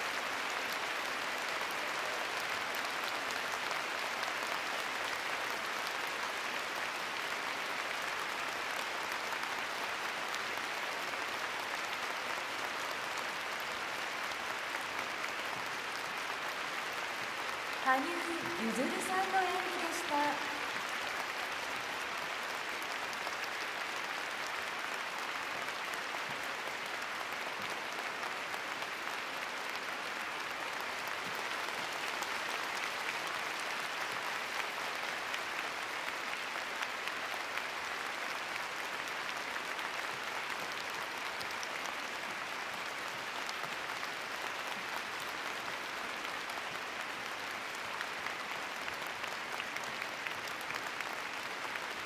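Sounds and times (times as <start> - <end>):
crowd applauding: 0.0 - 52.0.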